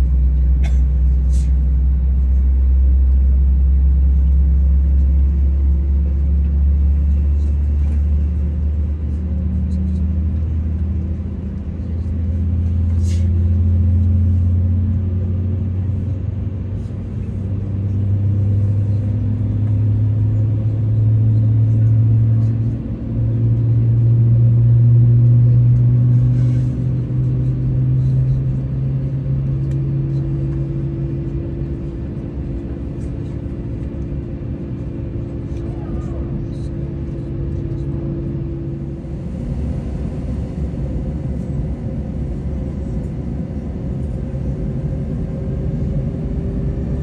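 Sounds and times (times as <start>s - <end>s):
airplane cabin engine rumble: 0.0s - 47.0s.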